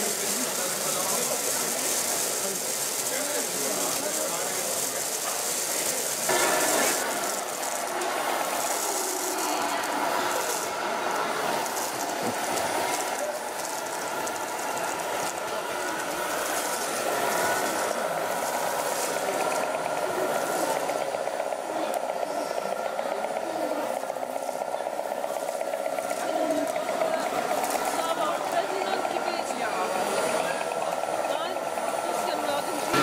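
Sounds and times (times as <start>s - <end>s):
model truck engine sound: 0.0s - 33.0s
people chattering: 0.0s - 33.0s.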